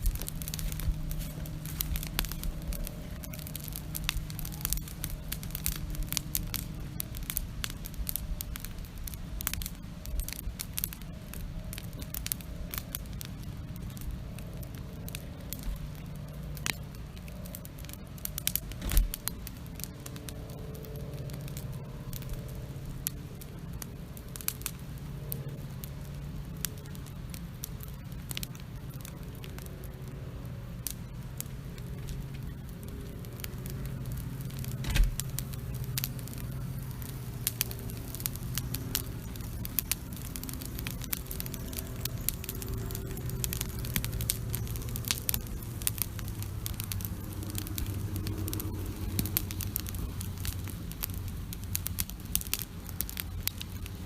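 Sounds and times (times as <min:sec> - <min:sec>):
campfire crackling: 0:00.0 - 0:54.0
fire pops and snaps: 0:00.0 - 0:54.0
low fire rumble: 0:00.0 - 0:54.0.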